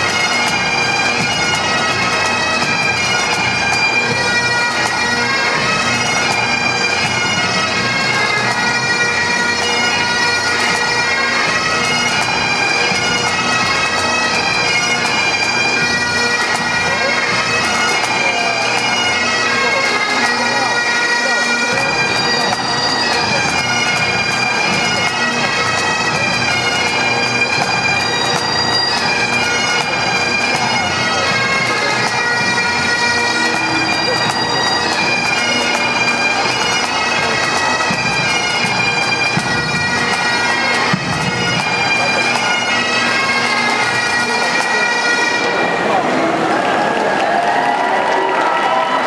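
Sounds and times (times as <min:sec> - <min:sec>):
bagpipes with drones: 0:00.0 - 0:49.0.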